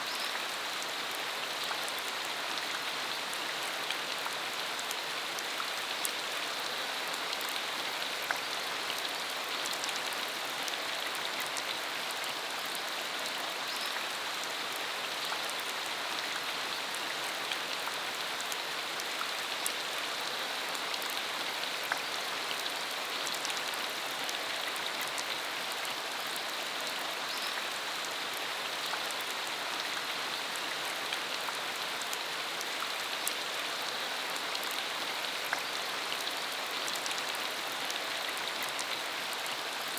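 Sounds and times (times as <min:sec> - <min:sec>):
rain falling on dirt road: 0:00.0 - 0:39.9.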